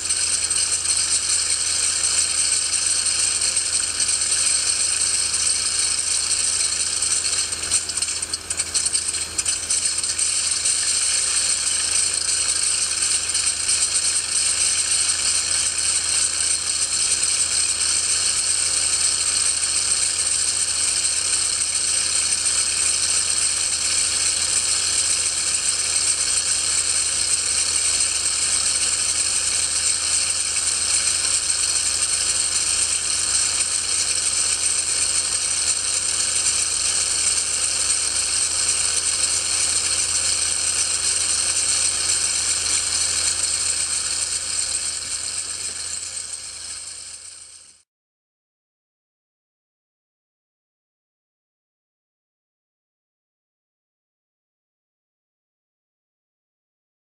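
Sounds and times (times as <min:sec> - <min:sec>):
recorded radial engine clatter: 0:00.0 - 0:47.8.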